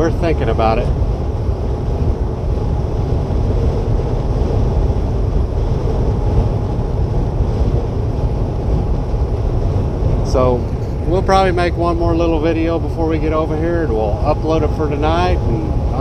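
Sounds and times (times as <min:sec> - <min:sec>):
truck cab low rumble: 0:00.0 - 0:16.0
wind around truck: 0:00.0 - 0:16.0.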